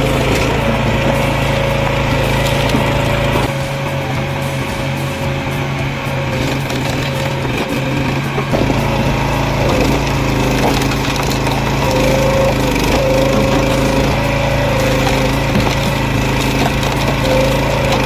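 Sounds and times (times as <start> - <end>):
small petrol engine running: 0.0 - 18.0.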